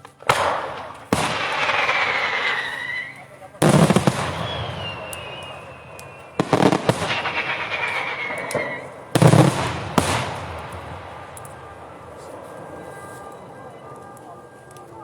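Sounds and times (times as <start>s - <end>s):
fireworks bangs with crackle: 0.0s - 13.8s
falling firework whistles: 0.3s - 13.4s.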